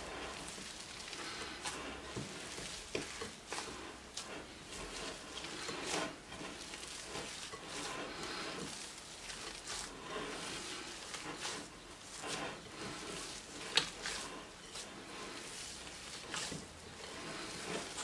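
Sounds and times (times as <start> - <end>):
wet squelches of kneading: 0.0 - 18.0.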